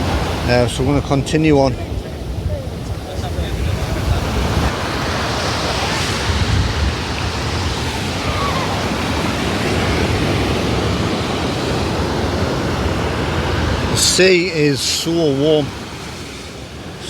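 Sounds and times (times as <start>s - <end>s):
surf washing on sand: 0.0s - 17.0s
wind rumbling on microphone: 0.0s - 17.0s.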